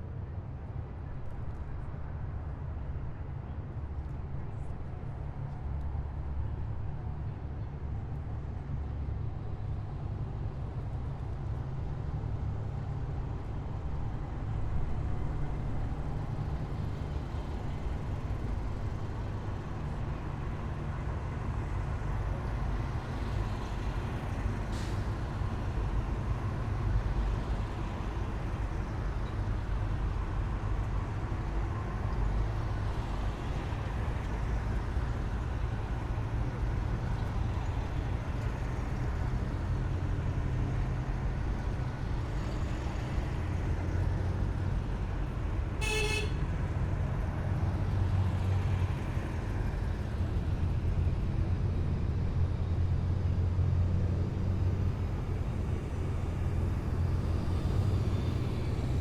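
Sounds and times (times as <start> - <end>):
heavy vehicle engine rumble: 0.1 - 59.0.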